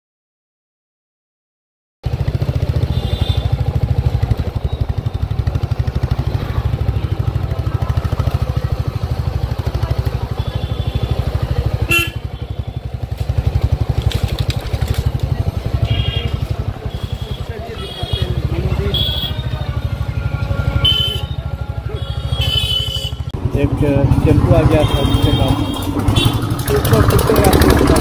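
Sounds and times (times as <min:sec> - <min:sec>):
motorbike engine rumble: 0:02.0 - 0:28.0.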